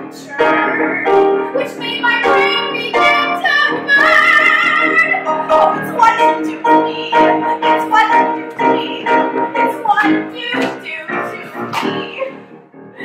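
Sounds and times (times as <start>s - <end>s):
piano chords: 0.0s - 13.0s
woman singing: 0.1s - 12.4s.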